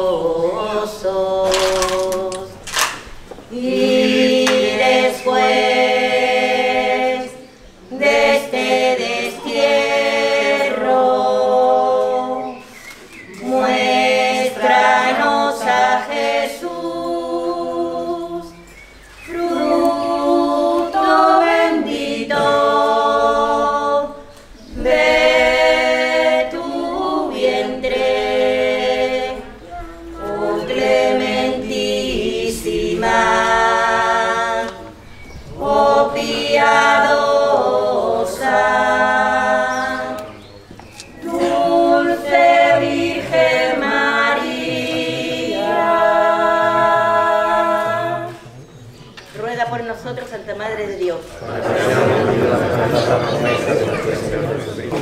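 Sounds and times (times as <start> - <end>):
choir singing a hymn unaccompanied: 0.0 - 48.8, 51.4 - 55.0.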